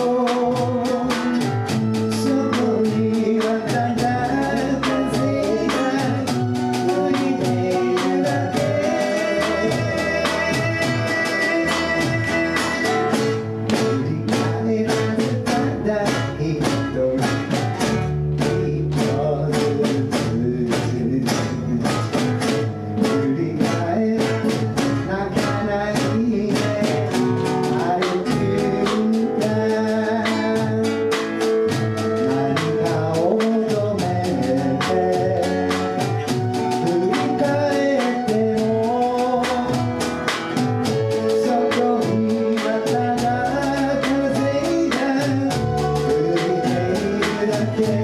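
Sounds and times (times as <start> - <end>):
acoustic guitar strumming: 0.0 - 48.0
keyboard: 0.0 - 48.0
person singing: 0.0 - 48.0.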